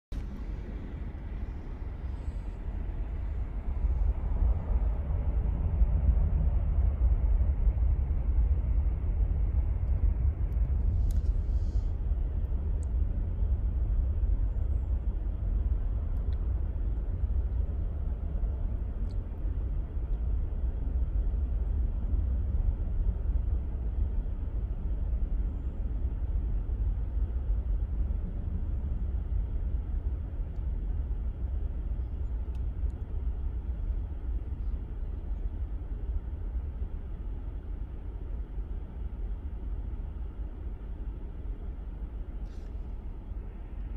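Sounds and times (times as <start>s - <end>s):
distant jet engines rumbling: 0.1s - 43.9s.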